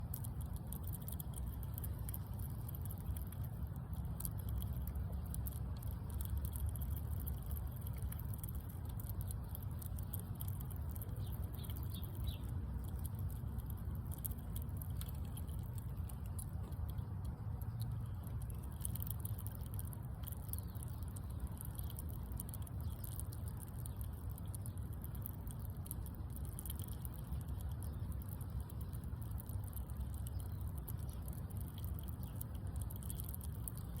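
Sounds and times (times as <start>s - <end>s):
squirrel chewing crunches: 0.0s - 34.0s
steady low rumble: 0.0s - 34.0s.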